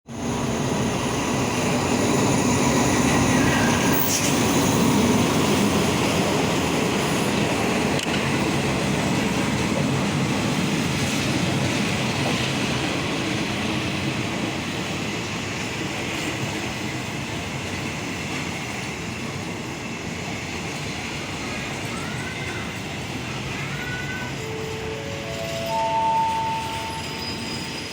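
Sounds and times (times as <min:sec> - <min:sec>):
train rumbling on rails: 0:00.1 - 0:27.9.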